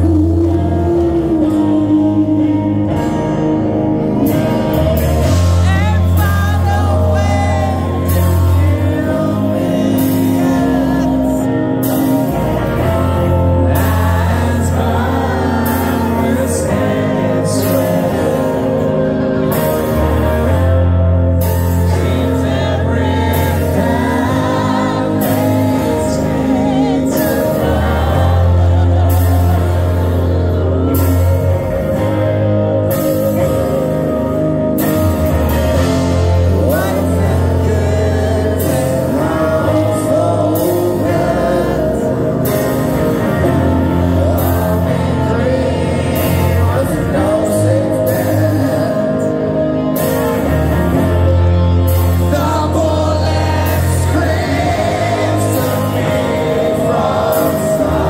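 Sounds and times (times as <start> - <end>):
live rock band: 0.0 - 58.0
person singing: 0.0 - 58.0.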